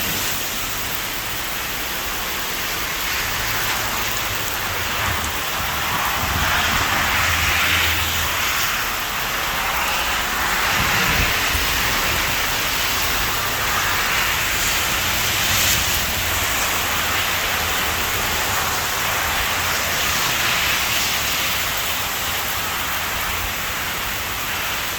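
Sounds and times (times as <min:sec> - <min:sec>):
heavy rain: 0:00.0 - 0:24.9.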